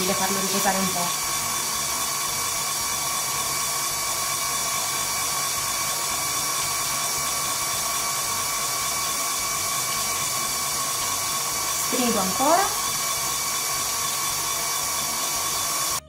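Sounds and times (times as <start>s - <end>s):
stand mixer motor whining: 0.0s - 16.0s.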